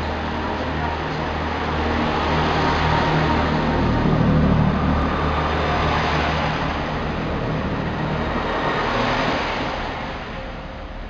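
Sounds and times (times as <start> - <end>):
diesel train engines running: 0.0 - 11.0
train wheels rumbling on rails: 0.0 - 11.0.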